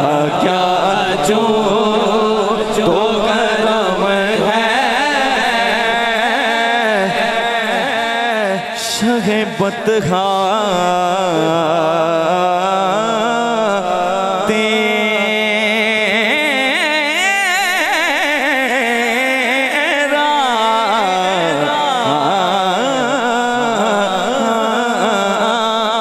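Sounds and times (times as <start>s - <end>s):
man singing devotional hymn: 0.0s - 26.0s.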